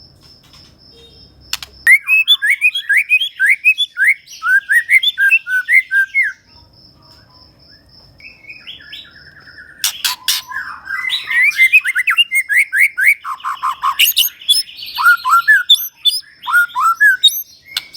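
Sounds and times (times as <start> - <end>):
bird singing varied song: 0.6 - 17.9.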